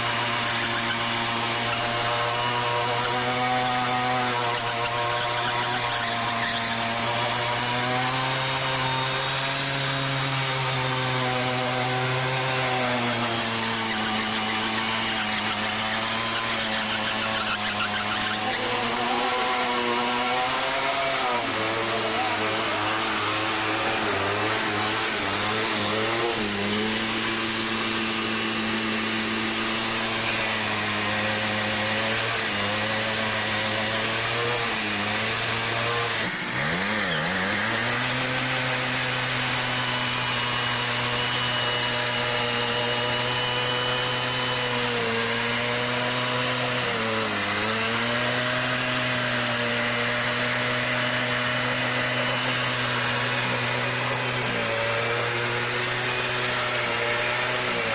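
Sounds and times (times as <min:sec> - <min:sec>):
moped engine at high revs: 0:00.0 - 0:57.9.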